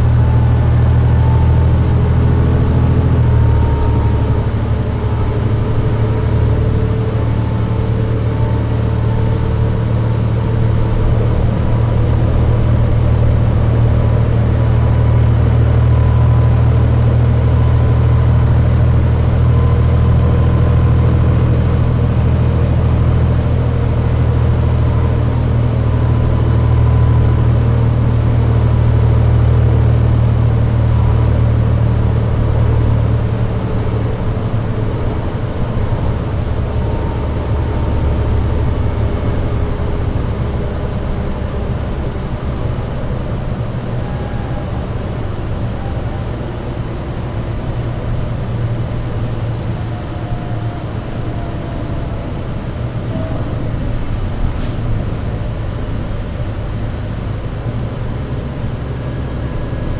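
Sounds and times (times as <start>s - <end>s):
bus diesel engine drone: 0.0s - 59.9s
drive axle whine: 0.0s - 59.9s.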